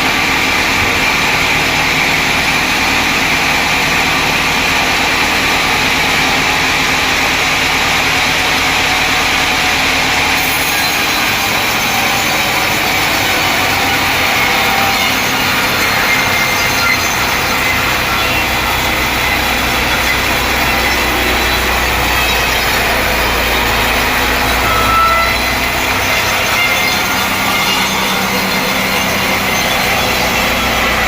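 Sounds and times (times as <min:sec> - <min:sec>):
saw cutting through log: 0:00.0 - 0:31.0.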